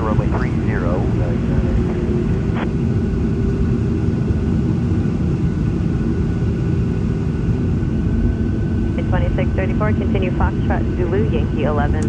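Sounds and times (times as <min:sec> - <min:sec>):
jet engines low rumble: 0:00.0 - 0:12.0
thin steady whine: 0:00.0 - 0:12.0.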